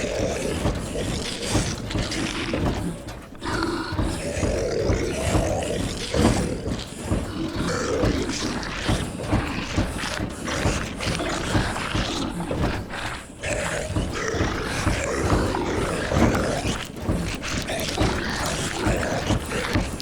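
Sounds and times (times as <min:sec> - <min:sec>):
creaking and rattling: 0:00.0 - 0:20.0
zombie moans and growls: 0:00.0 - 0:20.0.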